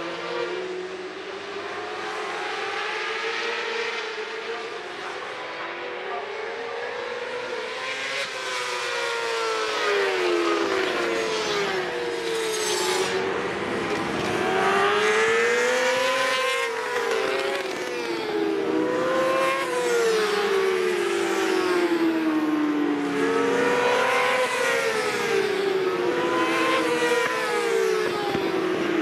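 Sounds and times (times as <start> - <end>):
racing motorcycle engines: 0.0 - 29.0.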